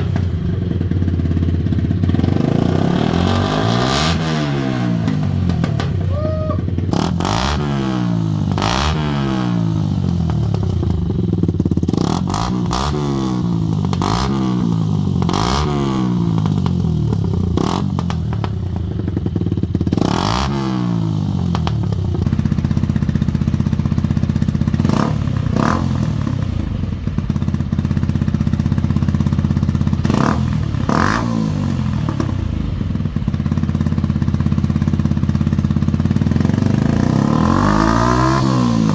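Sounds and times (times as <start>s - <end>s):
motorcycle engine revving: 0.0s - 38.9s
exhaust cracks: 4.7s - 12.9s, 13.5s - 20.7s, 21.3s - 37.3s.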